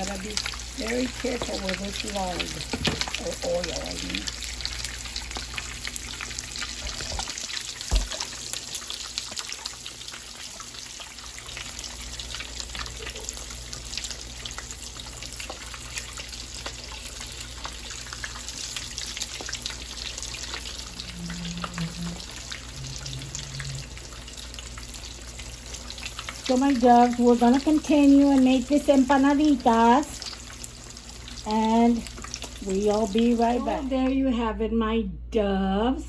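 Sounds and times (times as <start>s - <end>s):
food deep-frying in oil: 0.0s - 34.0s.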